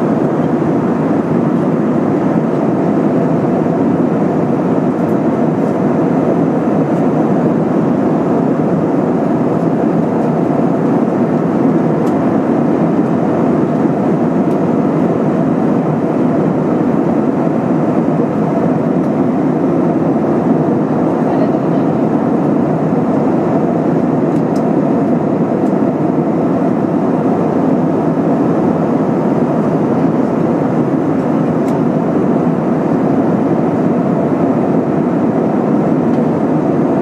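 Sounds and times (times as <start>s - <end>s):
airplane cabin engine drone: 0.0s - 37.0s.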